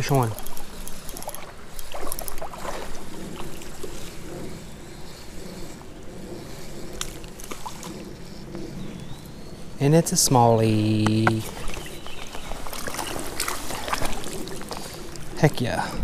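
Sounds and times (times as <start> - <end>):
water splashing and sloshing: 0.0 - 9.4, 10.6 - 16.0.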